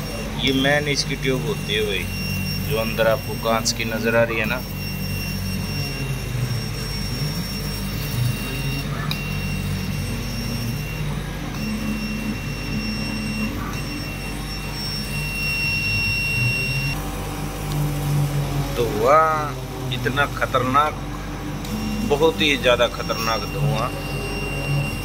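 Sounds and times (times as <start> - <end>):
laser cutter and blower humming: 0.0 - 25.0
thin high whine: 0.0 - 25.0.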